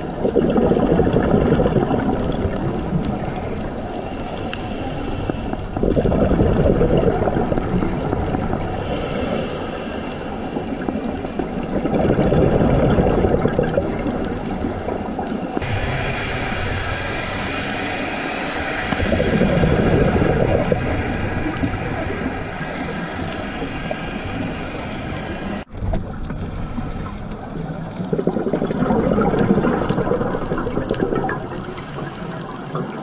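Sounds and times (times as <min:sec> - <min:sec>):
gurgling bubbles: 0:00.0 - 0:33.0
underwater rushing hum: 0:00.0 - 0:33.0.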